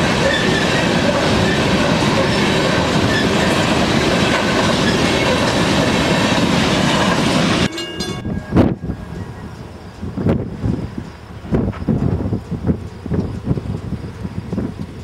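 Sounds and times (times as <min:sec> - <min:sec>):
diesel locomotives passing: 0:00.0 - 0:15.0
train wheels clattering on rails: 0:00.0 - 0:15.0.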